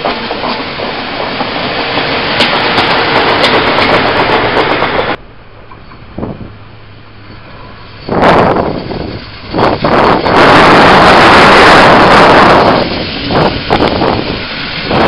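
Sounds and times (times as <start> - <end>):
train rushing on tracks: 0.0 - 15.0.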